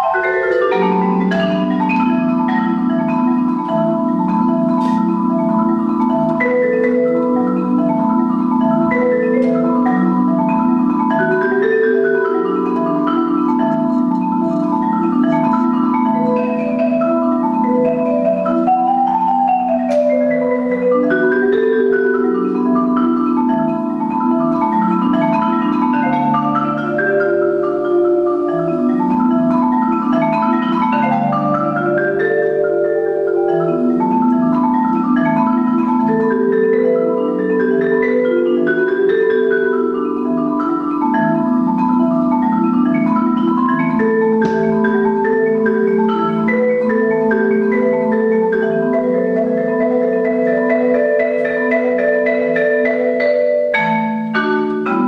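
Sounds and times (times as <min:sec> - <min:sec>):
marimba played with mallets: 0:00.0 - 0:55.0.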